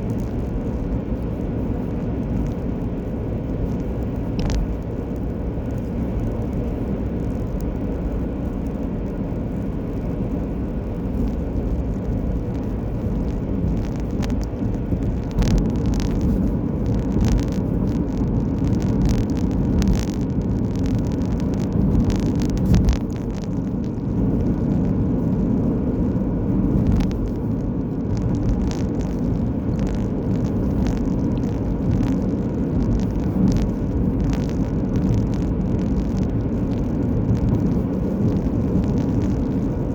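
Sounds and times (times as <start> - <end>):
car tyres and engine rumble: 0.0 - 39.9
small clicks and rattles: 0.0 - 39.9.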